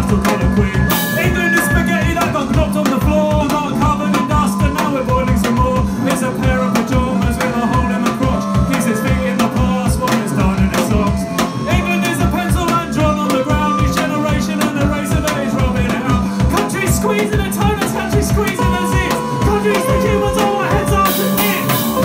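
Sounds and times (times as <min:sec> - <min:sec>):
electric guitar: 0:00.0 - 0:22.0
held keyboard notes: 0:00.0 - 0:22.0
steady drum beat: 0:00.0 - 0:22.0.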